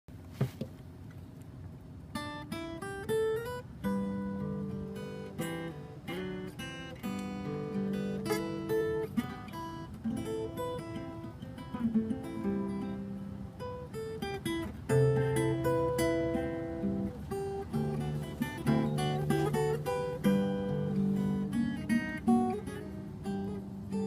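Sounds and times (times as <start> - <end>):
acoustic guitar: 0.3 - 24.0.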